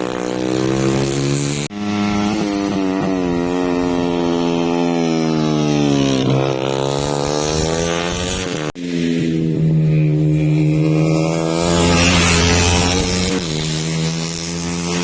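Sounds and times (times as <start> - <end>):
motorcycle engine running hard: 0.0 - 15.0
steady engine note: 0.0 - 15.0.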